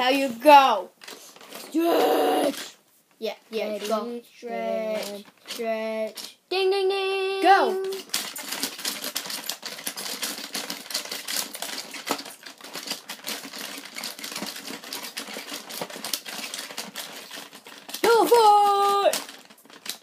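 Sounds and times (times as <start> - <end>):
plastic toy clattering: 0.0 - 2.8, 3.6 - 6.4, 7.6 - 20.0.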